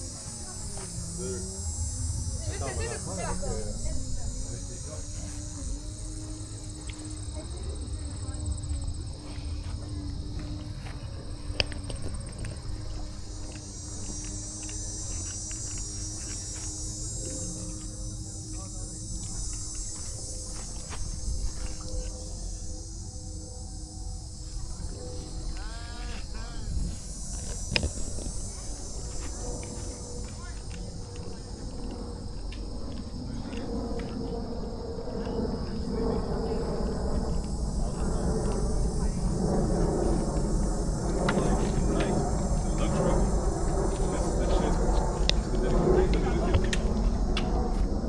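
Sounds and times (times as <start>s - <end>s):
crickets trilling: 0.0s - 48.0s
low rumble: 0.0s - 48.0s.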